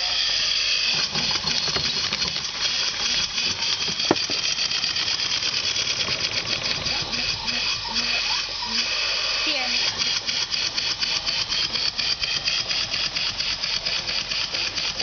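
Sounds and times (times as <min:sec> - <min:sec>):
mechanical clatter of corn sheller: 0:00.0 - 0:15.0
steam engine exhaust chuffing: 0:00.0 - 0:15.0.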